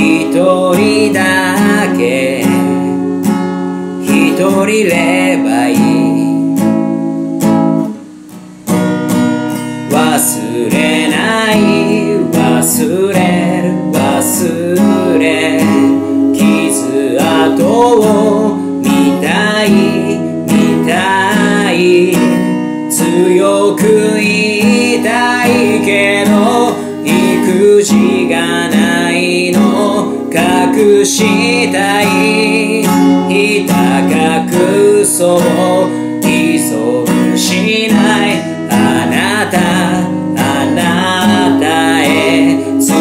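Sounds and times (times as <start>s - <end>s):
man singing a ballad: 0.0s - 7.2s, 9.6s - 43.0s
strummed acoustic guitar: 0.0s - 43.0s.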